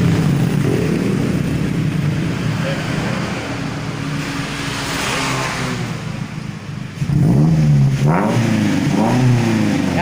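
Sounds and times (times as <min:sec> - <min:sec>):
car exhaust idling and revving: 0:00.0 - 0:10.0.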